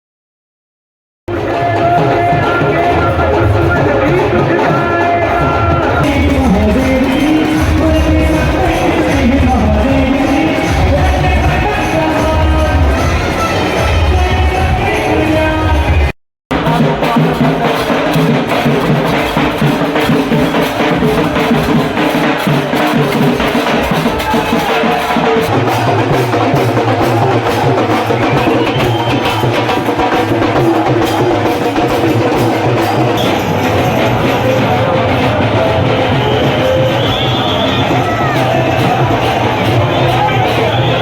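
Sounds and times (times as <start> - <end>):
fast drum rhythm: 1.3 - 41.0.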